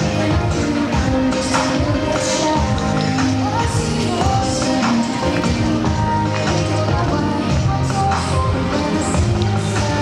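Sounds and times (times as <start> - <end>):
dance music with steady beat: 0.0 - 10.0.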